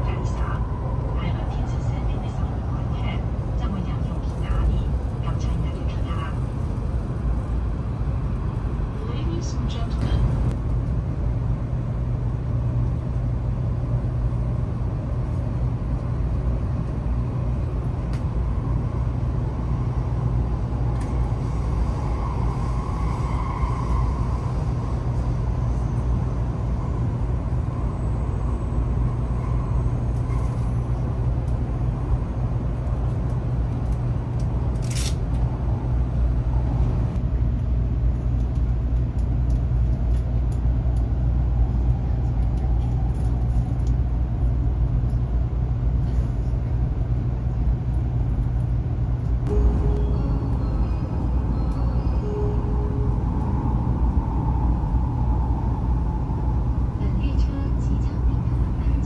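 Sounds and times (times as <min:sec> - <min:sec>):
train cabin rumble and hum: 0:00.0 - 0:59.0.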